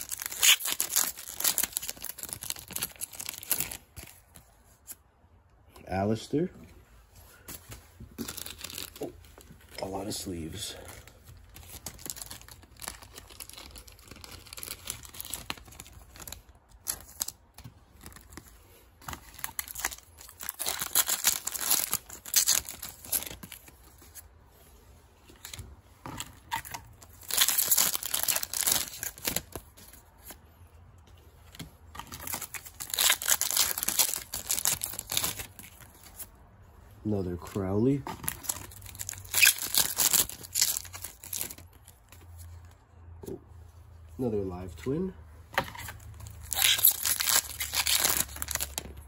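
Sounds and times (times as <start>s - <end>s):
cards rustling: 0.0s - 5.0s, 7.2s - 36.3s, 37.3s - 42.8s, 45.6s - 49.0s
wrappers ripping and crinkling: 0.0s - 5.0s, 7.4s - 24.3s, 25.3s - 30.4s, 31.4s - 36.4s, 37.2s - 42.8s, 45.6s - 49.0s.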